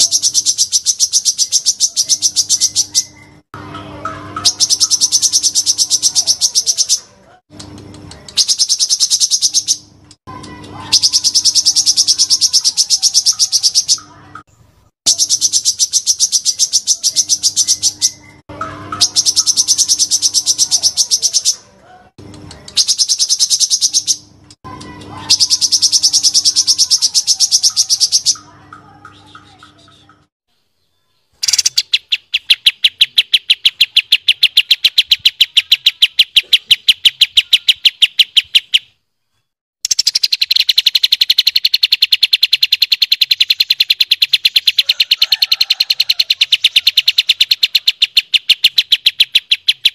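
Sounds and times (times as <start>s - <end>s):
songbird rattling trills: 0.0s - 7.1s, 8.0s - 14.2s, 15.1s - 21.6s, 22.5s - 30.2s, 31.4s - 38.9s, 39.8s - 49.9s.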